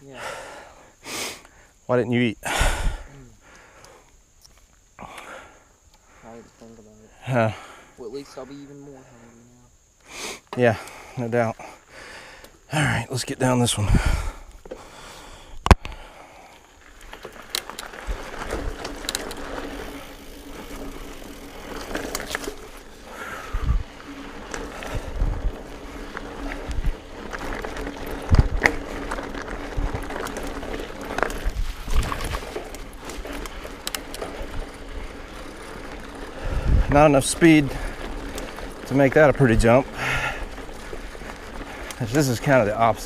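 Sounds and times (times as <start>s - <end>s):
bike tyres rolling on dirt: 0.0s - 43.0s.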